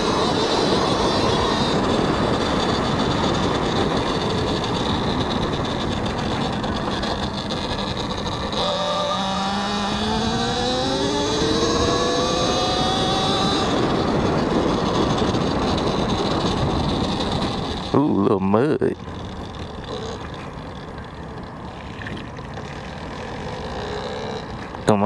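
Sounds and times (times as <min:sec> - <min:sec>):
electric motor whining: 0:00.0 - 0:25.0
wind rush on microphone: 0:00.0 - 0:25.0.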